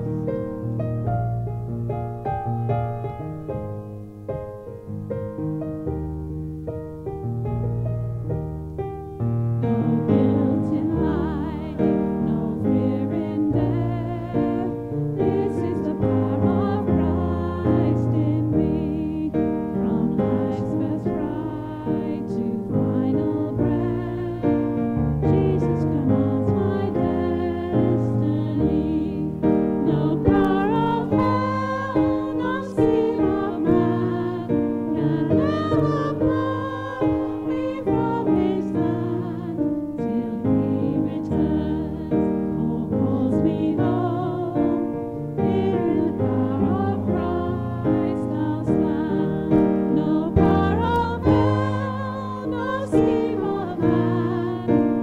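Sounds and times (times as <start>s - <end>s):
piano chords: 0.0s - 55.0s
voices singing a hymn: 9.6s - 55.0s.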